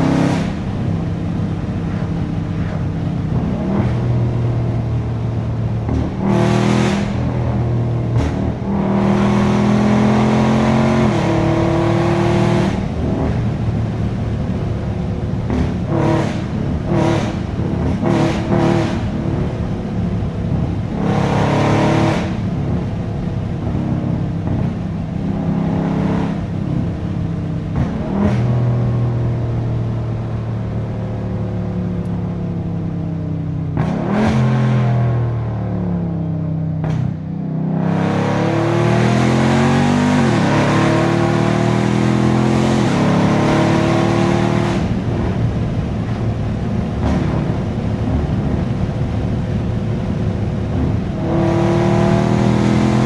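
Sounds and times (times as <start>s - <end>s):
car engine accelerating hard: 0.0s - 53.0s.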